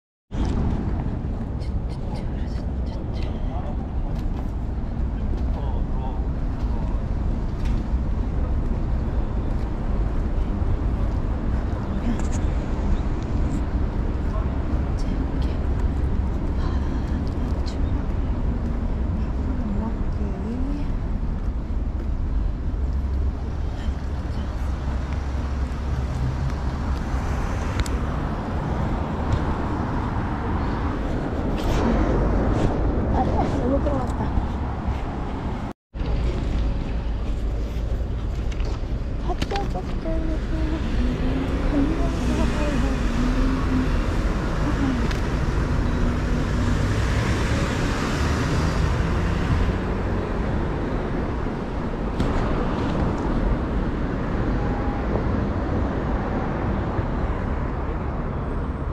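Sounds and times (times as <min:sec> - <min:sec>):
cars passing: 0:00.3 - 0:58.9.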